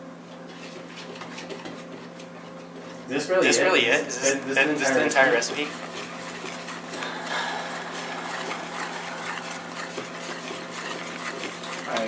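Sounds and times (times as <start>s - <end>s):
wire whisk beating batter: 0.5s - 3.2s, 4.6s - 12.0s.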